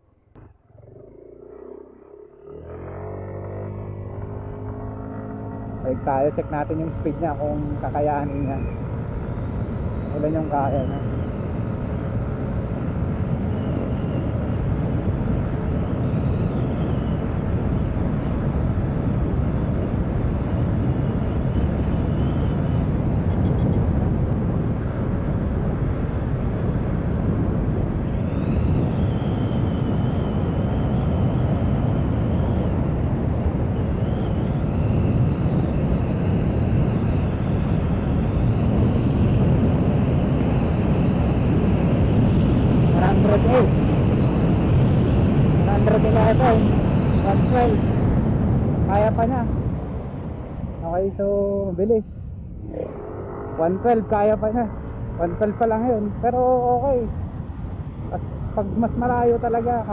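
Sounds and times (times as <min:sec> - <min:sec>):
faint high whine: 0:00.0 - 0:25.2, 0:28.0 - 0:59.9
scooter engine drone: 0:00.0 - 0:51.4, 0:52.3 - 0:59.9
wind rush on microphone: 0:00.0 - 0:59.9.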